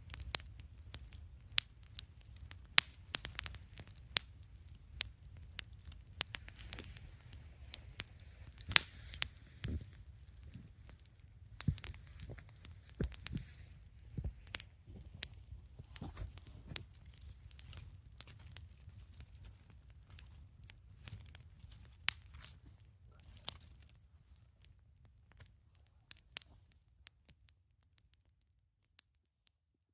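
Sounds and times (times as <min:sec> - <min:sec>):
campfire crackling: 0:00.0 - 0:28.4.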